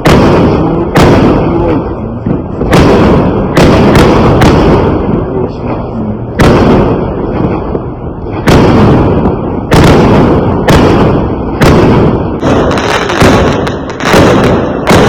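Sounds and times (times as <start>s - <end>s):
fireworks bangs with echo: 0.0s - 15.0s.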